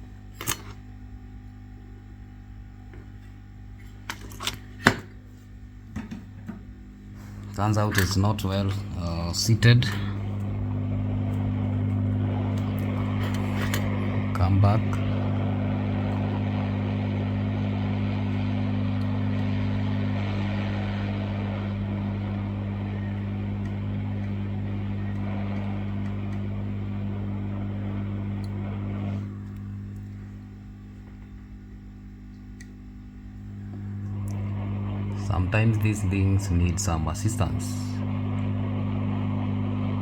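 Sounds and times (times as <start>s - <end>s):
low hum: 0.0s - 40.0s
hot air blower hissing: 3.0s - 40.0s.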